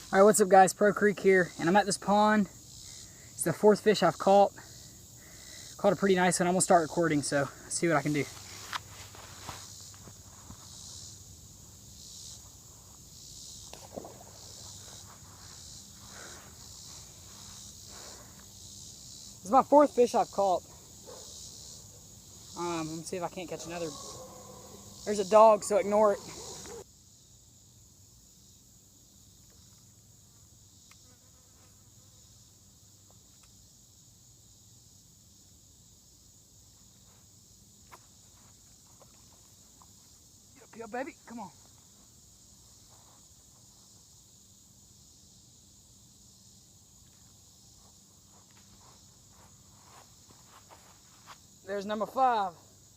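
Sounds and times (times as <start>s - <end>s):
insects chorus: 0.0s - 52.9s.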